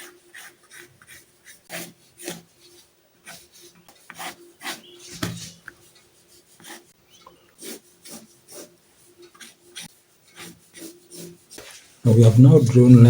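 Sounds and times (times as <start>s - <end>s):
drawing tool scratching on paper: 0.0s - 13.0s.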